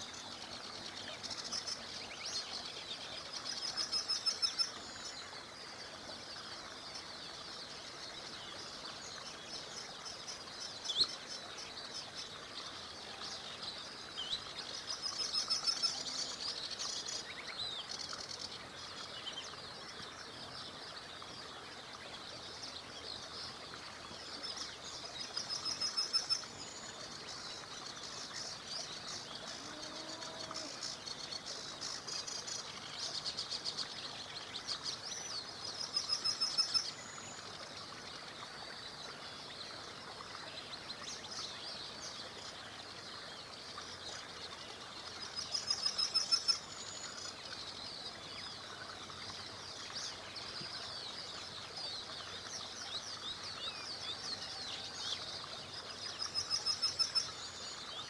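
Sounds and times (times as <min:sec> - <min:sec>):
flowing river water: 0:00.0 - 0:58.0
small birds trilling and chirping: 0:00.0 - 0:58.0.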